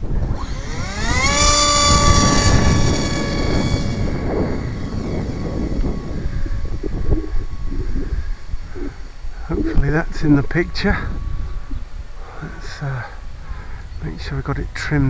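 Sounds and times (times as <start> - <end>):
model plane motor whining: 0.0 - 12.7.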